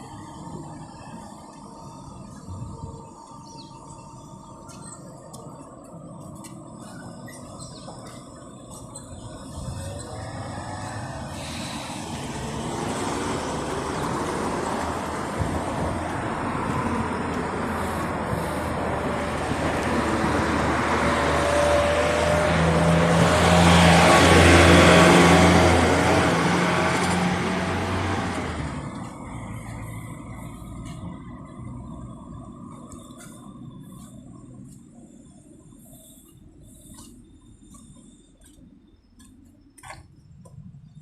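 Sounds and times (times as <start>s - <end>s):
vehicle engine hum passing: 0.0s - 39.9s
road traffic noise: 0.0s - 41.0s.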